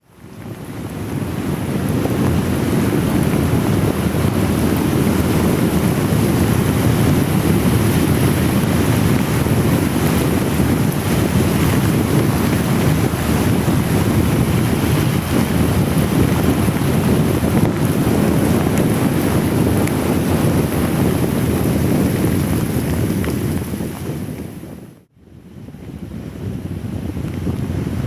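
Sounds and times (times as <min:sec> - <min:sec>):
wind buffeting microphone: 0:00.0 - 0:28.0
heavy rain hiss: 0:00.1 - 0:24.8.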